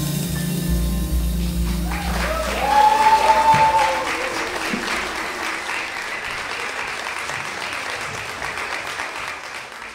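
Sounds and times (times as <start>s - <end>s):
audience applauding: 1.6s - 9.9s.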